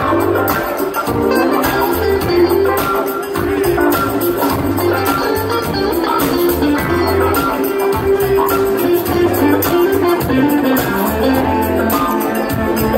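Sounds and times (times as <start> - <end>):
live band through sound system: 0.0 - 12.9.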